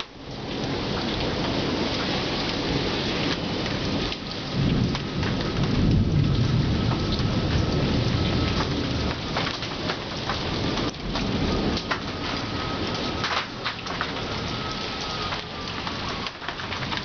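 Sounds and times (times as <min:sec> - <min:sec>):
rain falling: 0:00.0 - 0:17.0
thunder rumbling: 0:00.0 - 0:17.0.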